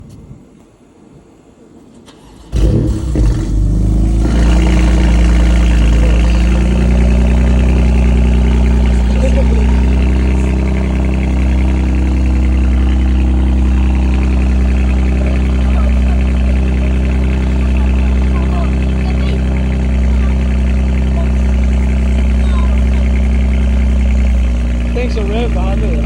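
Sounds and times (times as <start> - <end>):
car engine starting and idling: 1.6 - 26.0.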